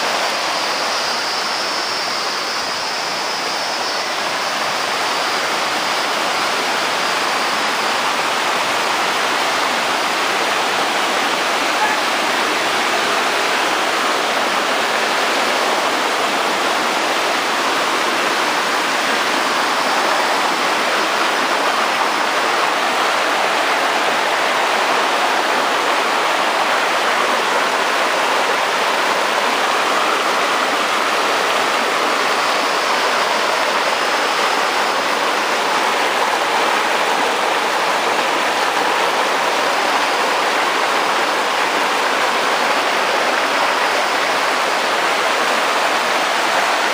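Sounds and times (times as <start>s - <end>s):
rushing water: 0.0s - 46.9s.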